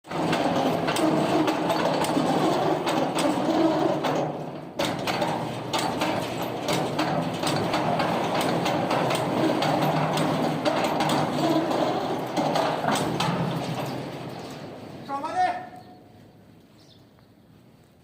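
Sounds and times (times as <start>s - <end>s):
machinery clicking and clattering: 0.0s - 15.1s.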